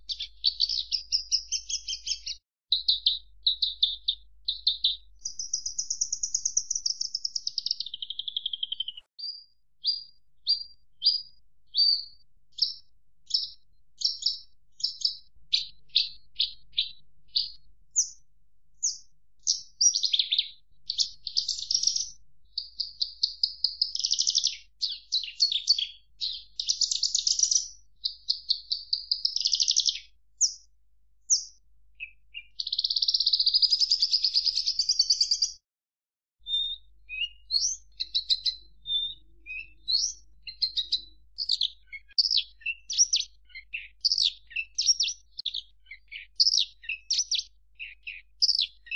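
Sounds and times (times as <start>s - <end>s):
bird singing high chirps and trills: 0.0s - 18.2s, 18.8s - 35.6s, 36.4s - 48.9s.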